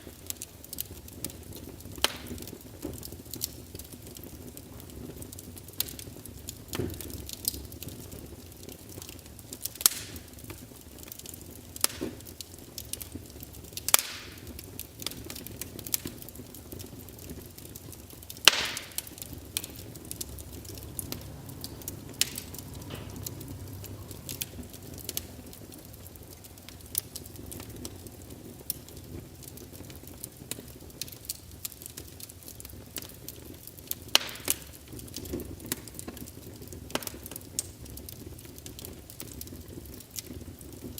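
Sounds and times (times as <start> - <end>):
logs crackling and popping: 0.0 - 40.9
rumble of flames: 0.0 - 40.9.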